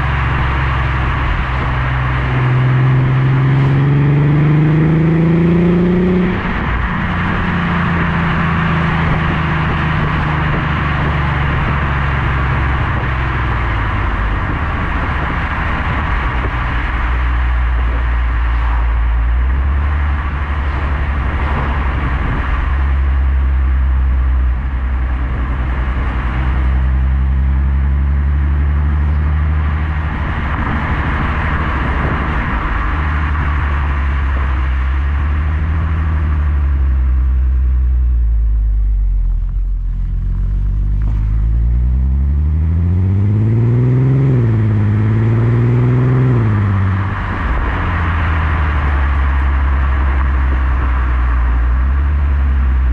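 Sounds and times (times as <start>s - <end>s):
car engine and exhaust revving: 0.0s - 52.9s.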